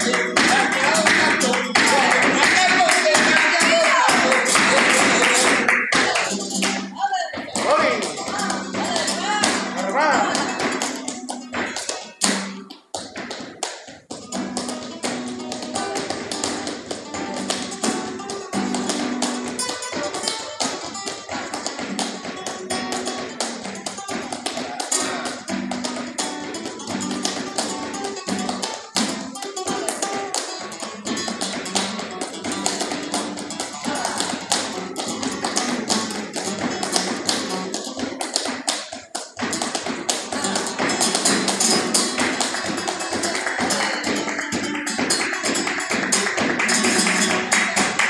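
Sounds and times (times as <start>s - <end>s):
acoustic guitar flamenco: 0.0s - 48.0s
rhythmic handclapping: 0.0s - 48.0s.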